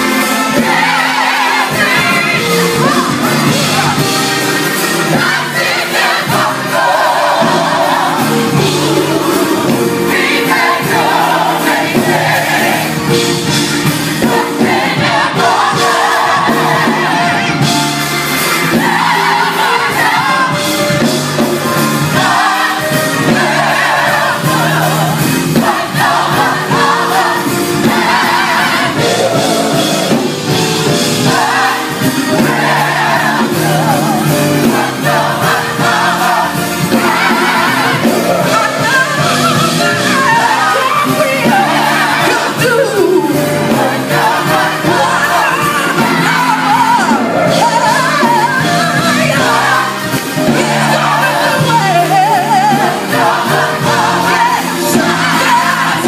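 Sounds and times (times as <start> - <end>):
amplified instrumental accompaniment: 0.0 - 56.0
gospel choir singing: 0.0 - 56.0
steady bass line: 0.0 - 56.0.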